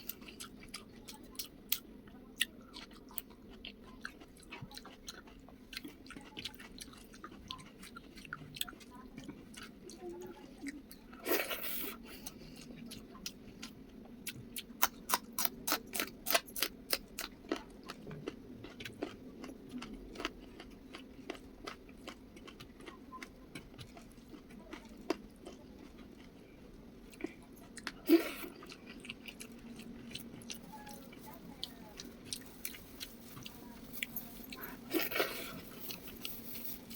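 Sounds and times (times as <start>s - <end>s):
person chewing with crunches: 0.0s - 36.9s.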